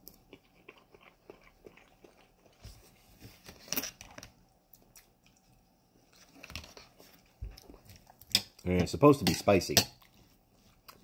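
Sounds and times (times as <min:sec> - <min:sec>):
person chewing food: 0:00.0 - 0:08.6, 0:10.0 - 0:11.0.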